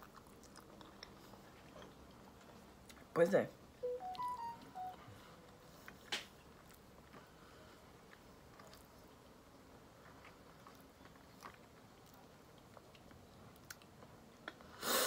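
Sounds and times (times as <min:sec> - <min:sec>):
faint chewing: 0:00.0 - 0:03.1, 0:05.4 - 0:14.8.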